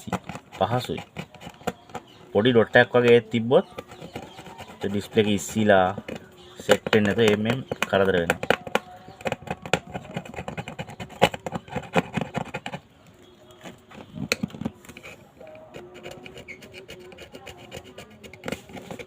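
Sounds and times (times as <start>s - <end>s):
tool scraping adhesive: 0.0s - 12.8s, 13.6s - 19.0s.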